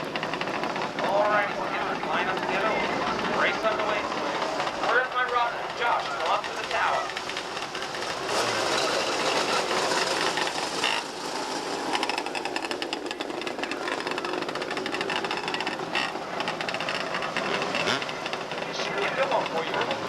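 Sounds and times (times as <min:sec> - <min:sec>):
race car engines buzzing: 0:00.0 - 0:20.0.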